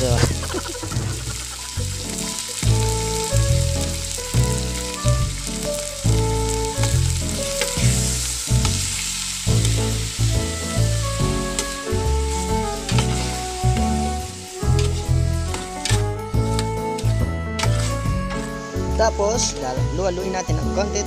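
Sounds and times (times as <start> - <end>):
chicken frying and sizzling: 0.0 - 21.0.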